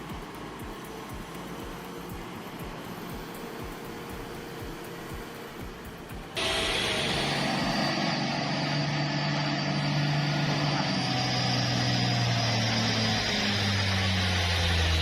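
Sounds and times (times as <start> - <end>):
heavy vehicle engine humming: 0.0 - 15.0.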